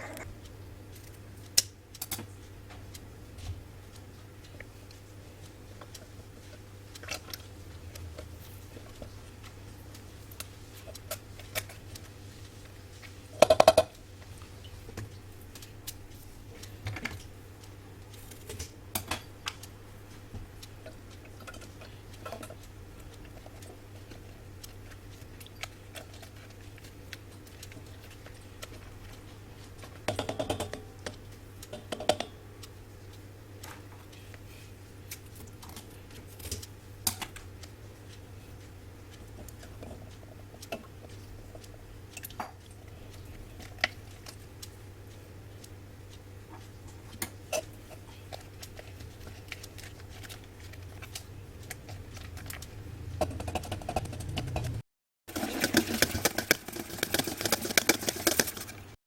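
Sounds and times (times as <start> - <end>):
steady low hum: 0.0 - 54.8.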